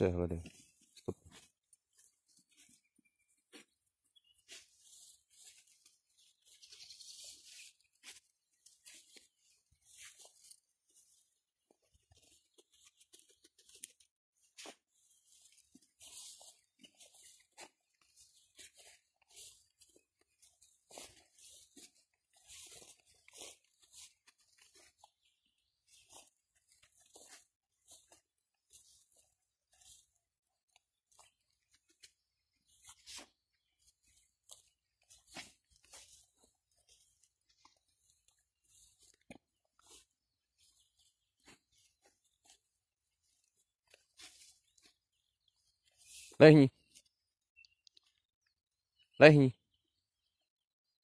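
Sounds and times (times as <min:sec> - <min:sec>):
footsteps rustling through grass: 0:00.3 - 0:47.4.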